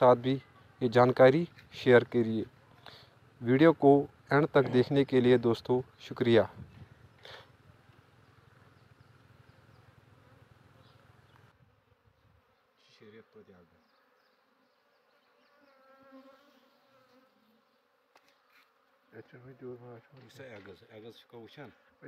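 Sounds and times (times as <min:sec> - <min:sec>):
faint buzzing of bees: 0:00.0 - 0:22.0.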